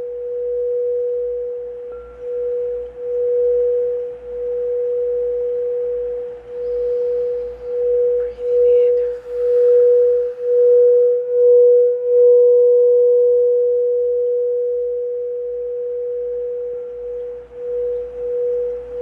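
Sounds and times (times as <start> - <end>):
singing bowl ringing: 0.0 - 19.0.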